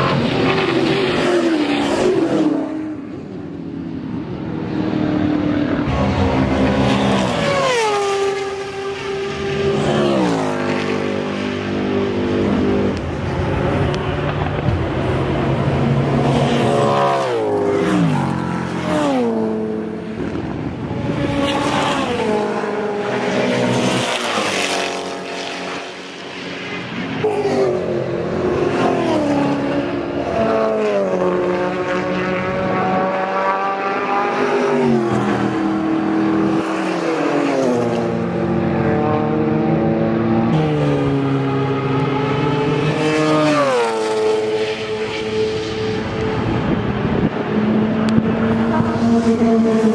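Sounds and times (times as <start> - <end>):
racing cars passing at speed: 0.0 - 49.9.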